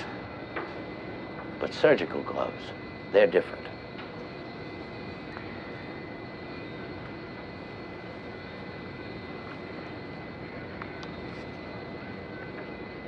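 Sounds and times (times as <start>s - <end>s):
faint high whine: 0.0s - 13.0s
ship engines droning: 0.0s - 13.0s.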